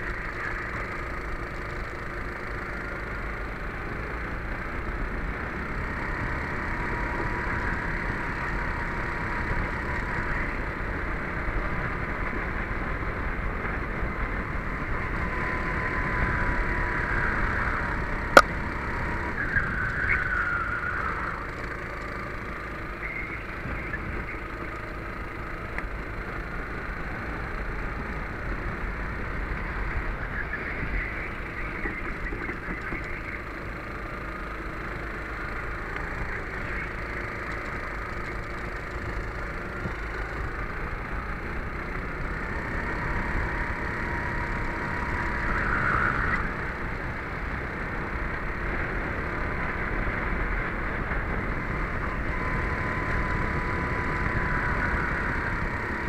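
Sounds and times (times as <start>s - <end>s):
kart engine: 0.0s - 56.0s.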